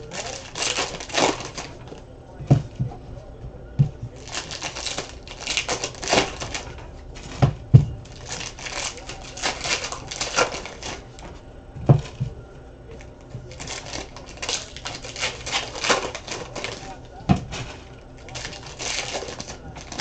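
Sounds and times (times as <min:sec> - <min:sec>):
cards and plastic sleeves rustling: 0:00.0 - 0:20.0.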